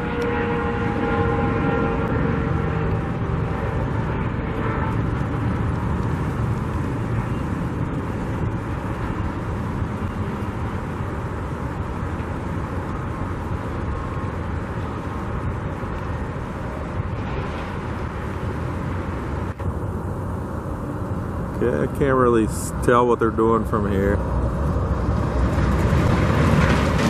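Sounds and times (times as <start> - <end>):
droning tone: 0.0 - 26.8
low outdoor rumble: 0.0 - 27.0.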